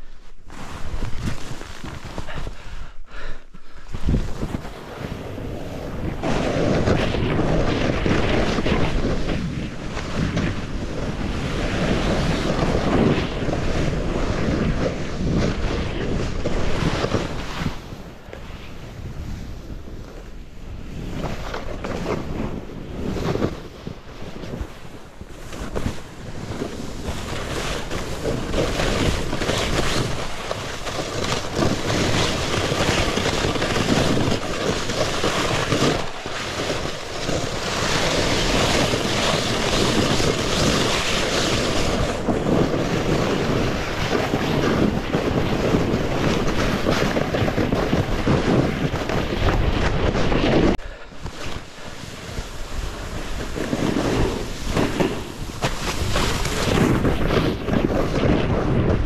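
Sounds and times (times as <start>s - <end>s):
snowboard scraping through snow: 0.0s - 59.0s
wind rushing over microphone: 0.0s - 59.0s.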